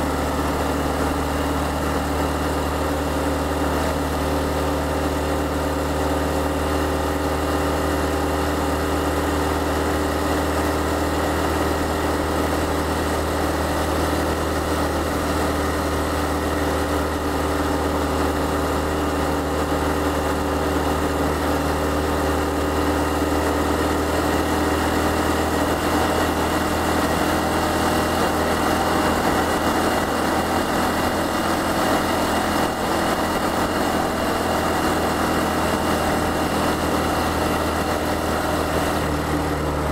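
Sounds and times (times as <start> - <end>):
small motorcycle engine running: 0.0 - 39.9
wind and road noise: 0.0 - 39.9.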